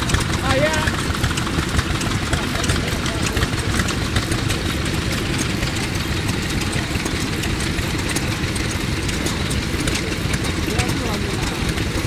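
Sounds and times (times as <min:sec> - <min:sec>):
machine gears ticking and clattering: 0:00.0 - 0:12.0
stationary engine running: 0:00.0 - 0:12.0.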